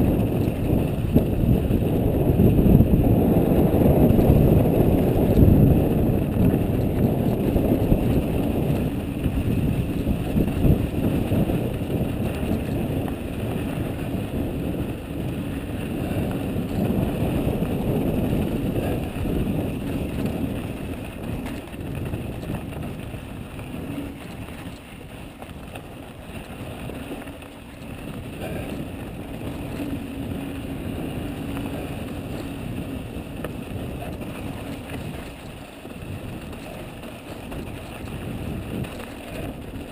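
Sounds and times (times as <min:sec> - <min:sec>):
bike tyres rolling over dirt: 0:00.0 - 0:39.9
wind buffeting microphone: 0:00.0 - 0:39.9.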